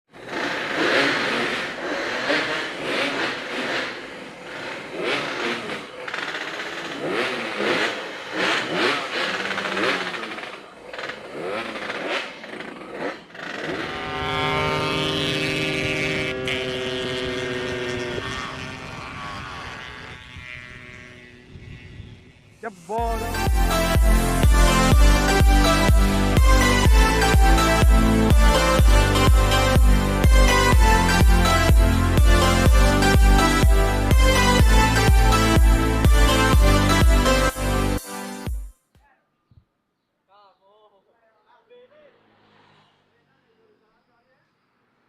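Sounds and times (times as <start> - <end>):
motorcycle engine revving: 0.1 - 38.7, 42.0 - 45.0.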